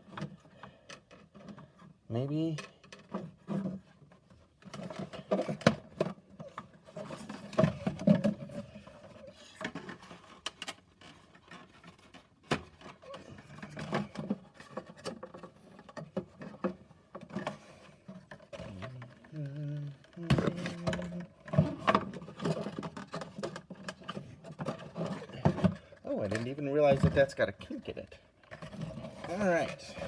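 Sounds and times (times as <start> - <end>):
cardboard rustling and scraping: 3.0 - 30.0.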